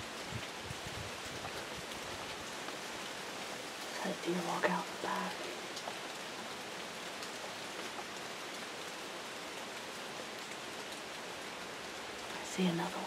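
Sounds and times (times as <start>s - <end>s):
raindrop ticks: 0.0s - 13.0s
steady rain hiss: 0.0s - 13.0s.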